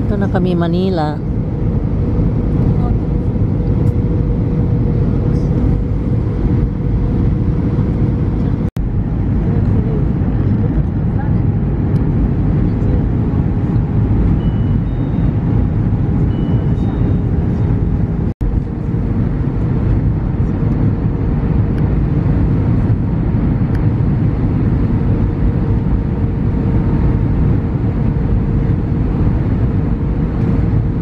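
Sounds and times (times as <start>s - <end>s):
jet engines roaring: 0.0s - 31.0s
steady cabin hum: 0.0s - 31.0s.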